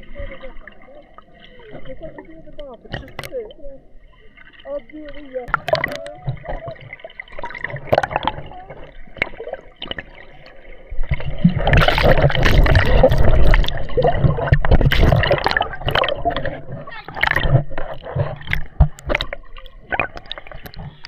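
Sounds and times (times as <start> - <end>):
small splashes and clicks: 0.0 - 3.6, 4.3 - 21.0
water gurgling and sloshing: 0.0 - 21.0.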